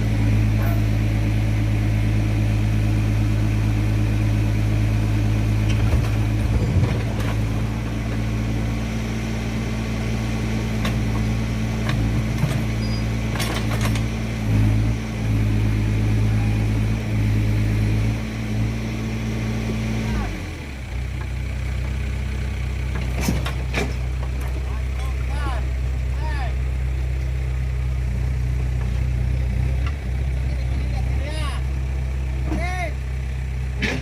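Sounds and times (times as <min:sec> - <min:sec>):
heavy vehicle engine running: 0:00.0 - 0:34.0.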